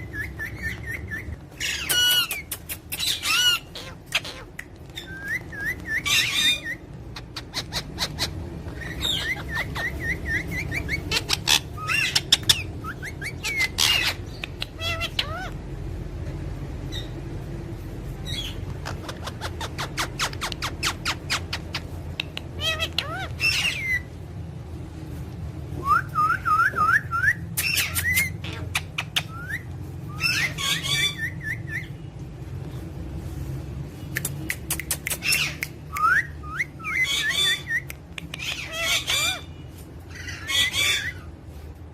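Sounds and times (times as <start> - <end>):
parrots chirping and calling: 0.0 - 24.4, 26.1 - 41.8.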